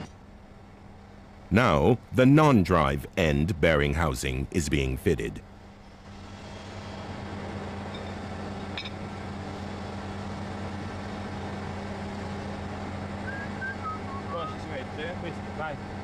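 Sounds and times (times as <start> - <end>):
low electrical drone: 0.0 - 16.0
workshop machinery hum: 0.0 - 16.0.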